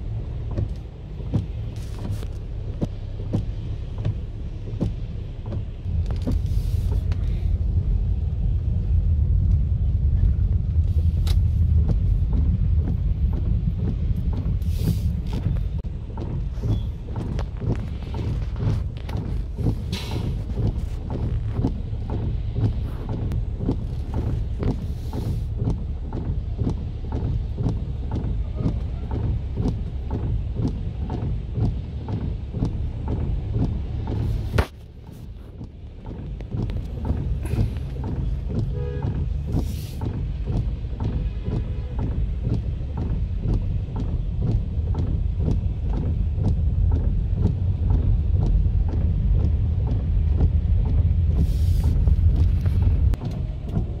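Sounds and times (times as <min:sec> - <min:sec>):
heavy rain drumming on car roof: 0:00.0 - 0:54.0.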